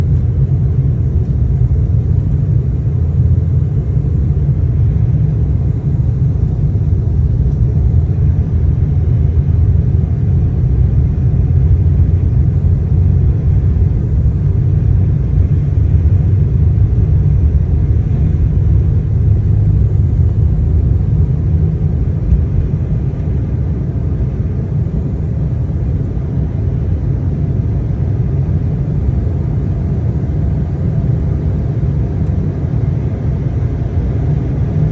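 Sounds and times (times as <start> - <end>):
jet airliner engines rumbling: 0.0 - 34.9.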